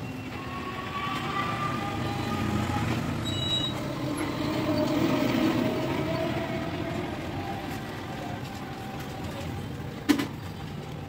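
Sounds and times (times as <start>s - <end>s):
traffic passing on road: 0.0s - 11.0s.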